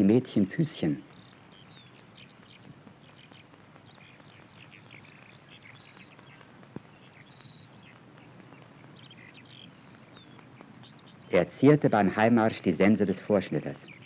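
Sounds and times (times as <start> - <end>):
birds chirping and whistling: 0.0 - 14.0
low steady hiss: 0.0 - 14.0.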